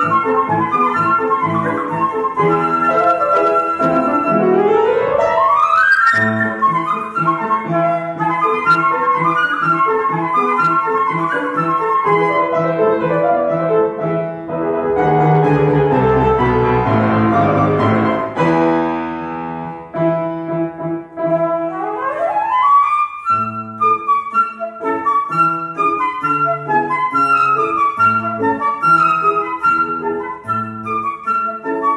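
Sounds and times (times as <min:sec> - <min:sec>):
flute: 0:00.0 - 0:18.6, 0:21.2 - 0:31.9
piano: 0:00.0 - 0:31.9.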